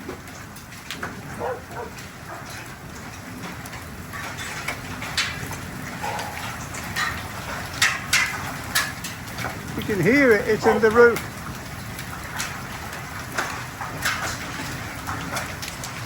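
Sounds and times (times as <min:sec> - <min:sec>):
hailstones cracking on roof: 0:00.0 - 0:16.0
rain hissing on roof: 0:00.0 - 0:16.0.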